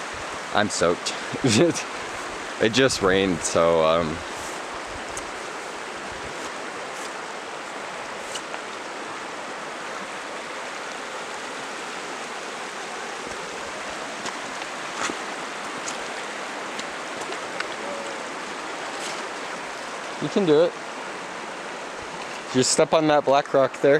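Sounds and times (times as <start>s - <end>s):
stream rushing over rocks: 0.0s - 23.9s.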